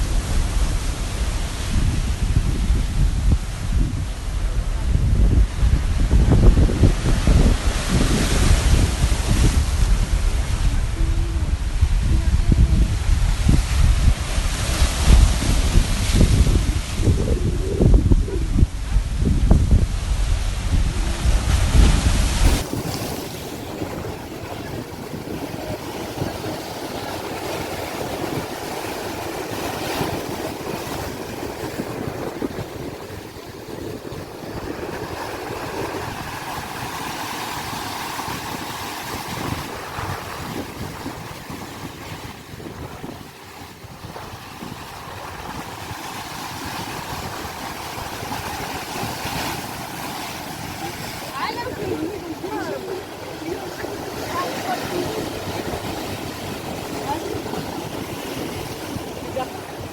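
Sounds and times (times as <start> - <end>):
sea waves breaking: 0.0 - 59.9
wind buffeting microphone: 0.0 - 59.9.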